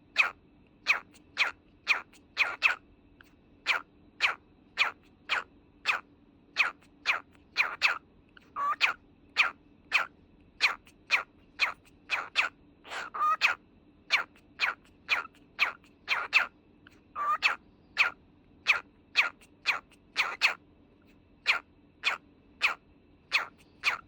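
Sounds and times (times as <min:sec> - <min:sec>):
cockatiel chirping: 0:00.1 - 0:02.8, 0:03.6 - 0:06.0, 0:06.6 - 0:20.6, 0:21.4 - 0:24.0.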